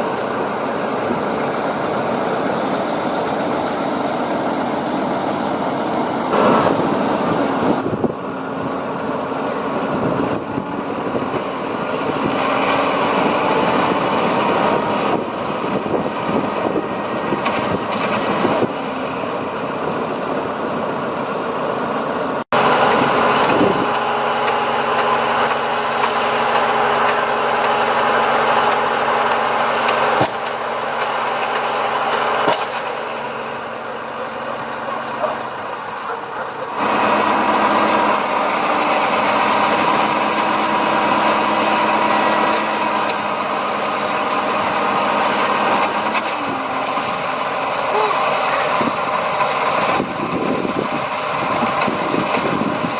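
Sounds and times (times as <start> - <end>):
diesel machinery engines running: 0.0 - 52.9.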